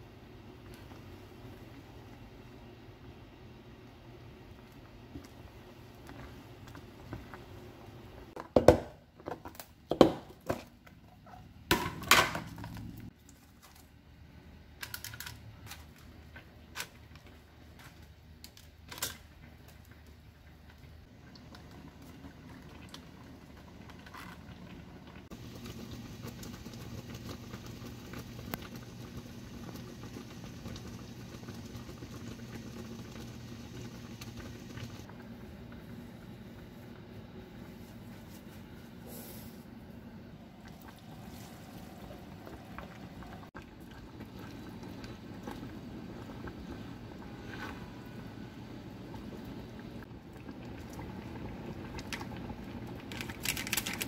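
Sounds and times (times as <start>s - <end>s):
low appliance hum: 0.0s - 54.0s.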